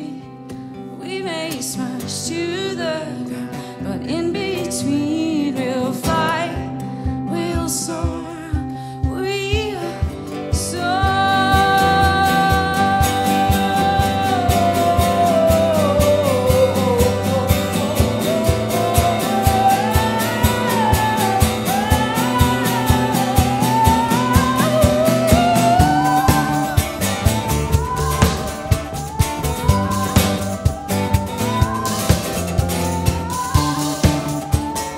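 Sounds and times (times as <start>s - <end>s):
strummed acoustic guitar: 0.0s - 34.9s
woman singing wordless melody: 0.0s - 34.9s.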